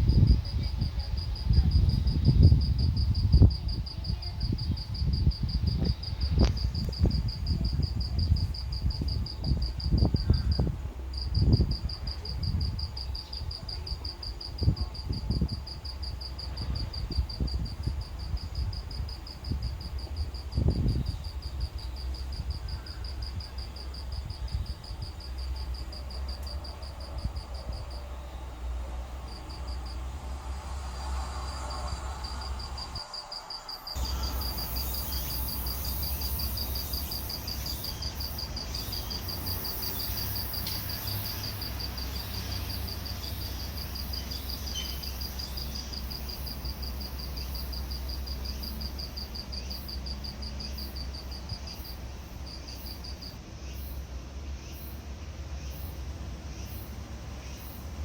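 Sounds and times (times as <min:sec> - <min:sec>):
wind buffeting microphone: 0:00.0 - 0:52.2
cricket trilling: 0:00.0 - 0:58.0
high hiss of insects: 0:00.0 - 0:58.0.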